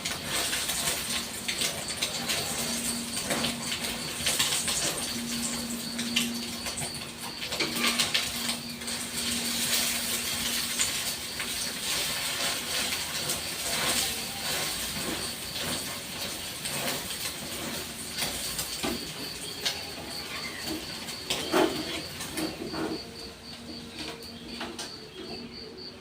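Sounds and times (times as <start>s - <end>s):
eggs sizzling in hot oil: 0.0s - 22.5s.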